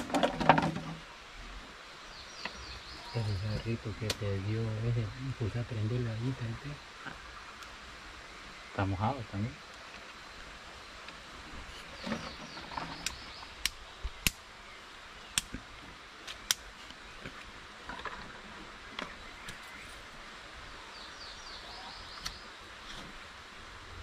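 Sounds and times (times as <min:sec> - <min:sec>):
damp forest ambience hiss: 0:00.0 - 0:24.0.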